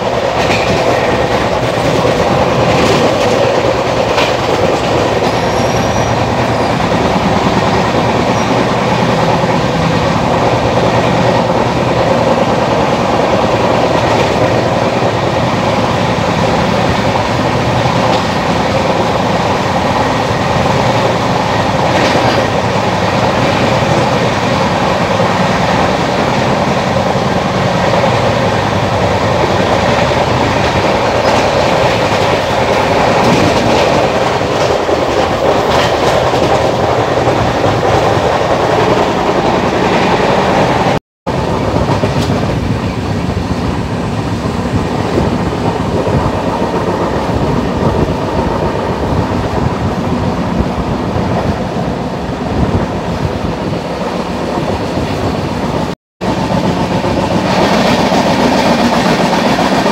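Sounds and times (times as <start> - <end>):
train rumbling and rattling: 0.0 - 59.9.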